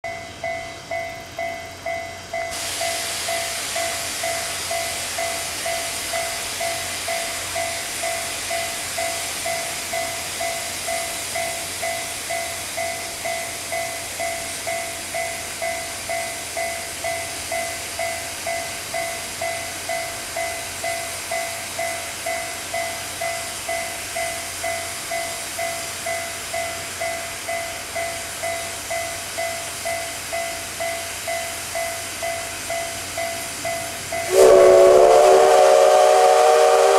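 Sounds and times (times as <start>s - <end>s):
level crossing warning bell ringing: 0.0s - 3.5s, 4.7s - 34.6s
steam locomotive hissing: 0.4s - 36.9s.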